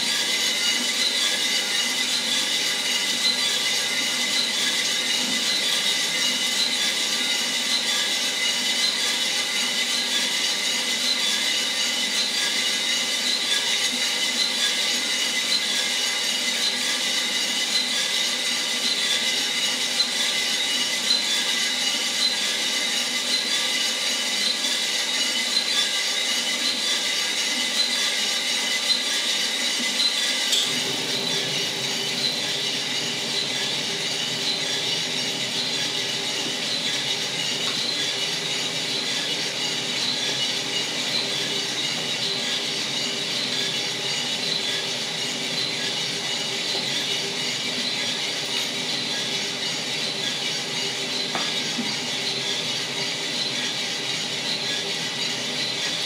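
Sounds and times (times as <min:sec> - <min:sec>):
motor and fan noise with whine: 0:00.0 - 0:56.0.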